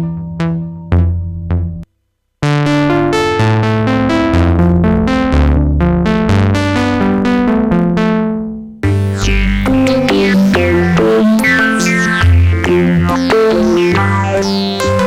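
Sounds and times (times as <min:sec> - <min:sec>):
synthesizer bass notes and chords: 0:02.4 - 0:15.0.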